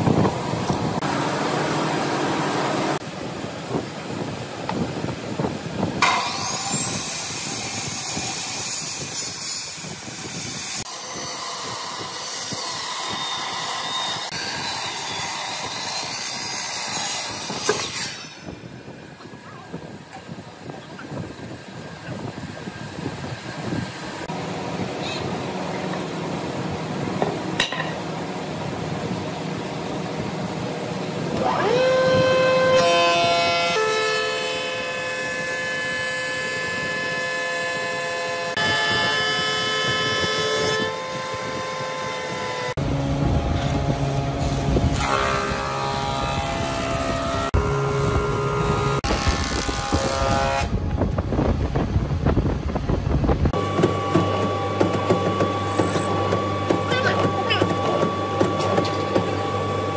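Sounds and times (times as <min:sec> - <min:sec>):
wood planer whine: 0:00.0 - 0:03.4, 0:06.0 - 0:19.4, 0:21.2 - 0:51.1, 0:53.5 - 0:59.9.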